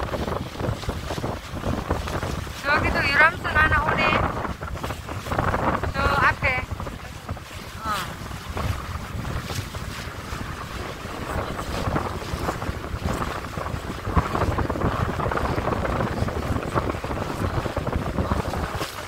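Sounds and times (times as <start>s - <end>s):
boat engine rumble: 0.0s - 19.0s
wind buffeting microphone: 0.0s - 19.0s.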